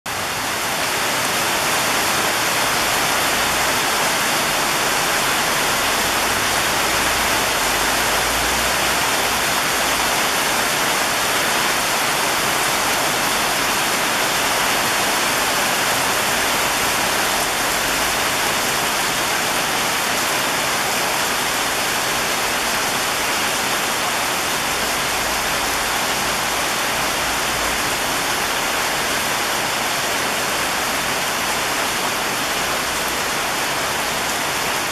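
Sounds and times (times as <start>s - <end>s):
heavy rain on rooftops: 0.1s - 34.9s.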